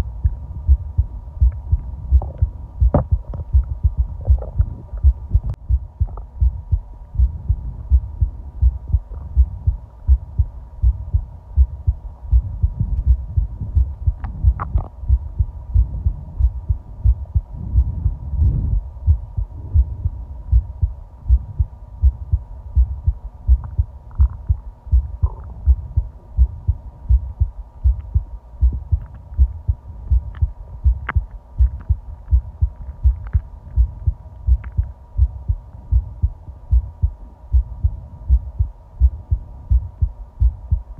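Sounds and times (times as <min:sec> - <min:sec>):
faint steady hum: 0:00.0 - 0:40.9
heartbeat thuds: 0:00.0 - 0:40.9.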